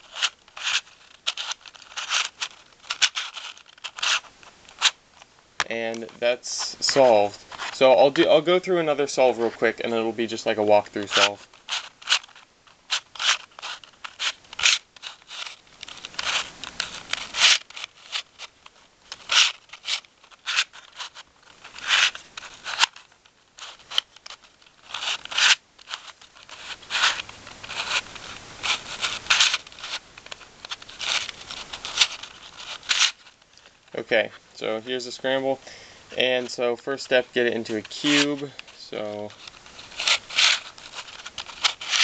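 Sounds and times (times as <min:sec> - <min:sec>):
puzzle cube clicking and scraping: 0:00.0 - 0:42.0.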